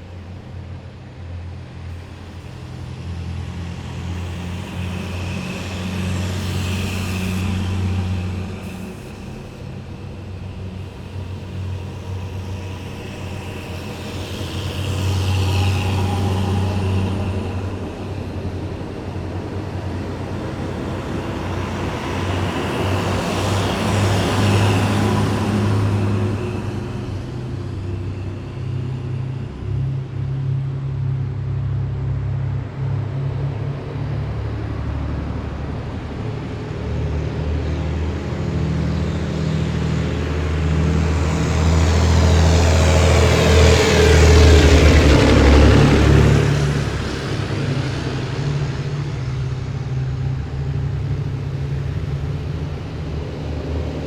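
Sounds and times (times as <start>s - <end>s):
heavy military vehicles engine drone: 0.0s - 54.0s
vehicle passing with high whine: 0.0s - 54.0s.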